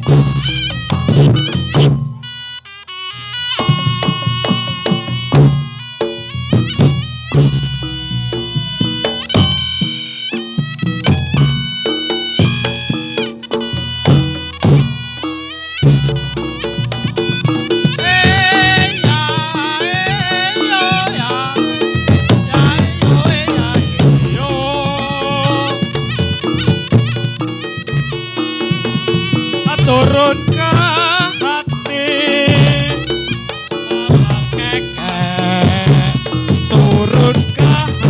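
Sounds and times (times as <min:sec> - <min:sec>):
hand drums: 0:00.0 - 0:02.5, 0:03.4 - 0:38.0
shawm playing wavering melody: 0:00.0 - 0:38.0
gong-chime percussion: 0:03.6 - 0:38.0.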